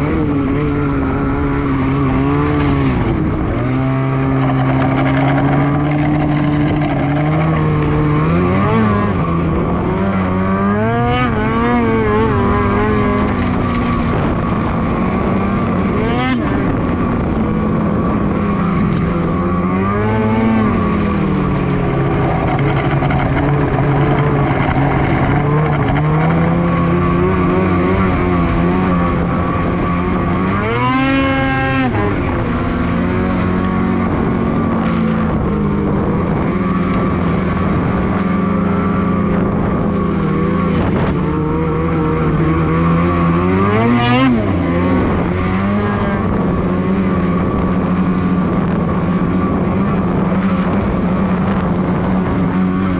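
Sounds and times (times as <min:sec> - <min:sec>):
snowmobile engine running: 0:00.0 - 0:52.9.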